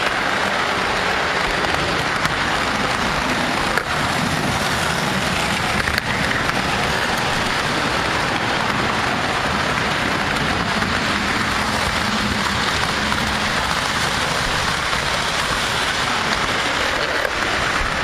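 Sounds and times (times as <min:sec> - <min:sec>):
model train wheels rattling on rails: 0:00.0 - 0:18.0.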